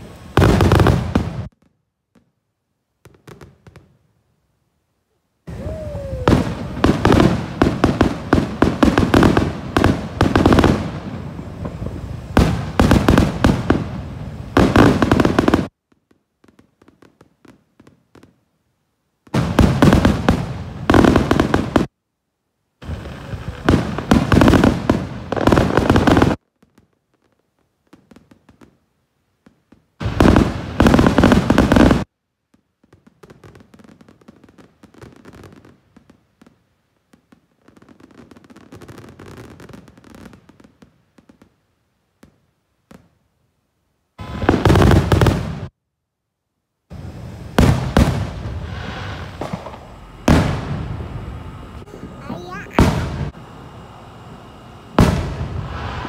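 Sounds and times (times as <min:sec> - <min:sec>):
fireworks bursting and crackling: 0:00.0 - 0:04.4, 0:05.4 - 0:22.0, 0:22.7 - 0:43.2, 0:44.1 - 0:45.8, 0:46.8 - 0:56.0.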